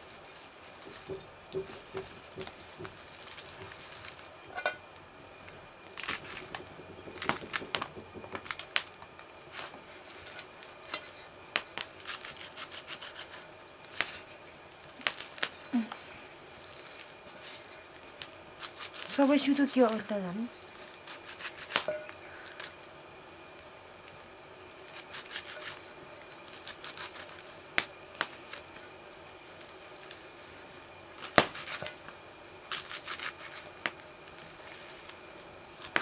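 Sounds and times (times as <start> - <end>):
leaves crackling and snapping: 2.4 - 22.8, 24.8 - 36.0.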